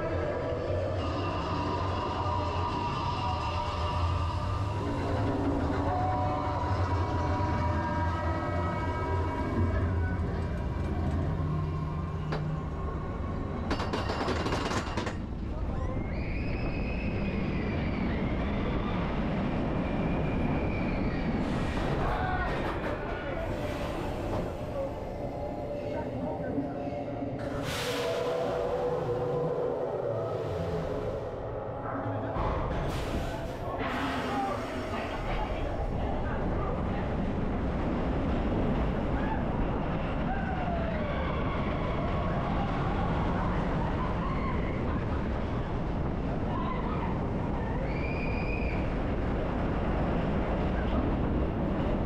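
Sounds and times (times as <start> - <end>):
roller coaster wheels rumbling: 0.0 - 52.0.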